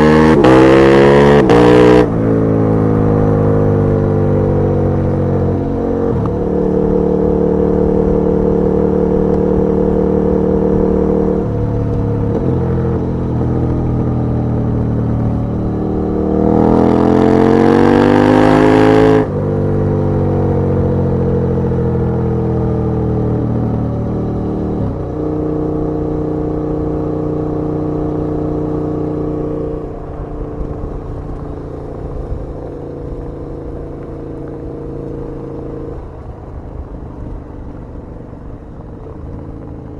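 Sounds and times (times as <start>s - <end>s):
motorcycle engine cruising and revving: 0.0s - 39.9s.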